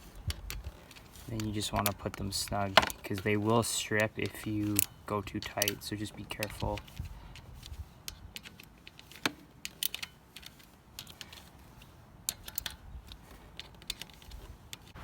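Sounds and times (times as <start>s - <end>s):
socket ratchet clicking: 0.2s - 14.9s.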